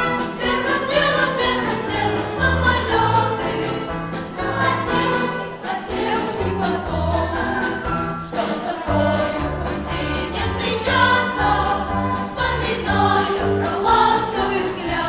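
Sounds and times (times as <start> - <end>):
orchestra playing: 0.0 - 15.0
voices singing: 0.0 - 15.0.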